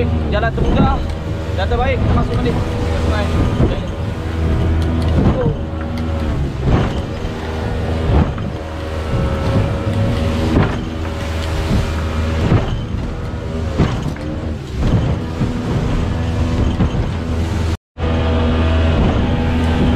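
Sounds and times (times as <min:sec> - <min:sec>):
hull slapping into waves: 0:00.0 - 0:17.8, 0:18.6 - 0:19.9
boat engine running: 0:00.0 - 0:19.9.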